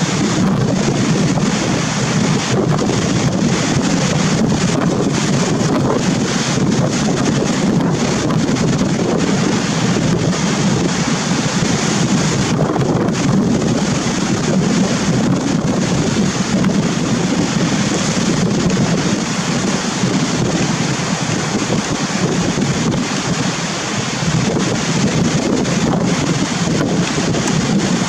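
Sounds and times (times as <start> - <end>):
rough sea with breaking waves: 0.0 - 28.0
wind buffeting microphone: 0.0 - 28.0.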